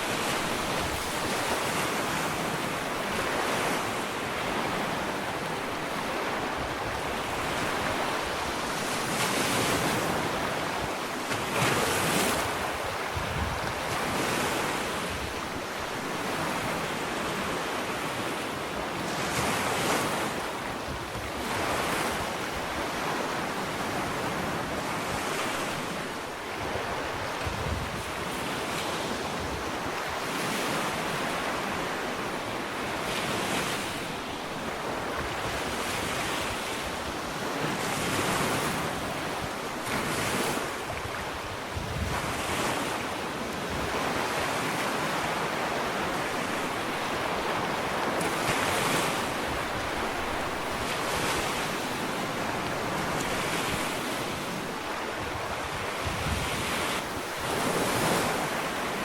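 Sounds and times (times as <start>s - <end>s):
ocean waves breaking on beach: 0.0s - 59.0s
wind on microphone: 0.0s - 59.0s.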